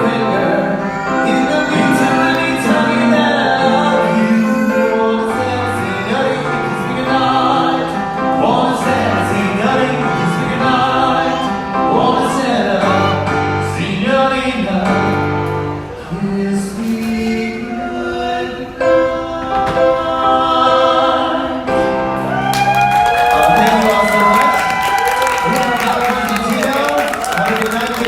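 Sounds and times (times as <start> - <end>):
vocal duo singing: 0.0 - 22.5
musical accompaniment: 0.0 - 28.0.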